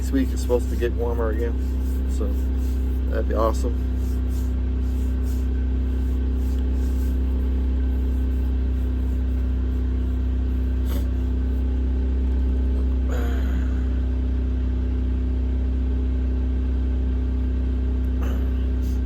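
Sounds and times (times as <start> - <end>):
generator humming: 0.0 - 19.0.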